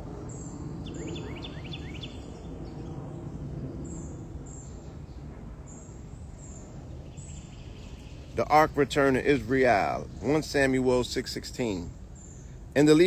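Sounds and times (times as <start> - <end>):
low background rumble: 0.0 - 13.0
birds chirping: 0.1 - 13.0.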